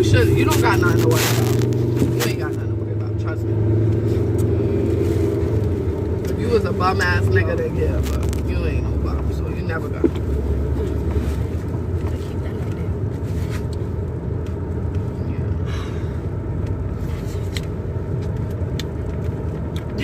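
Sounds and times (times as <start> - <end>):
car cabin rumble: 0.0 - 20.0.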